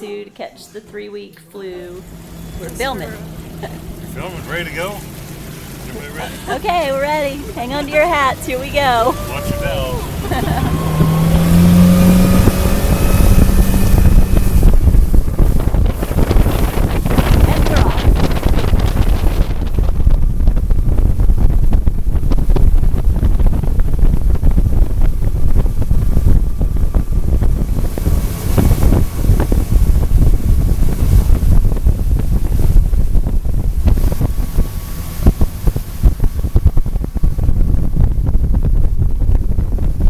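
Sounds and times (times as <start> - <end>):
boat motor: 0.0 - 40.0
water noise: 0.0 - 40.0
wind buffeting microphone: 2.0 - 40.0.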